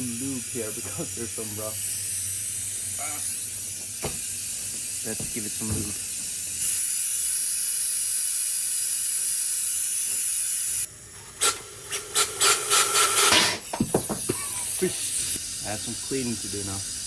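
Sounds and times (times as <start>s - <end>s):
aerosol spray hissing: 0.0s - 17.0s.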